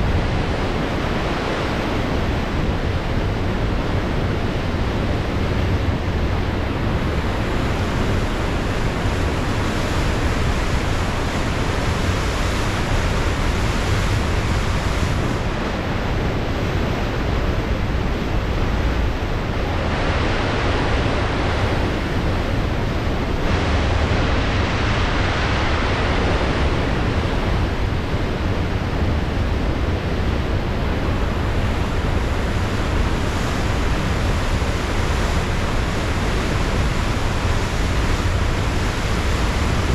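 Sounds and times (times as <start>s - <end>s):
ocean surf rushing: 0.0s - 39.9s
wind rumble on microphone: 0.0s - 39.9s.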